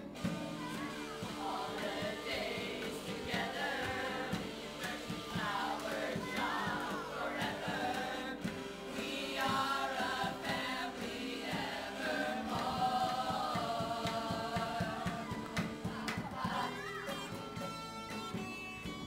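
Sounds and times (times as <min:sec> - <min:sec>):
group of voices singing: 0:00.0 - 0:17.4
guitars playing: 0:00.0 - 0:19.0.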